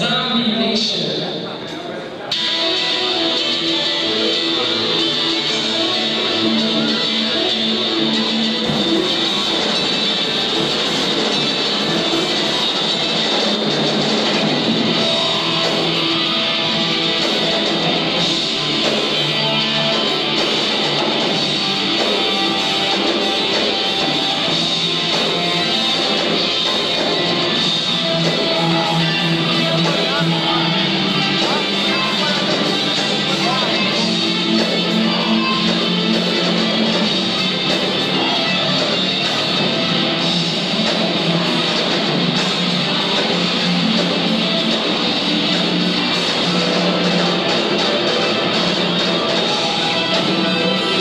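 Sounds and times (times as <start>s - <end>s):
electric guitar: 1.3s - 51.0s
heavy metal band playing: 2.3s - 51.0s.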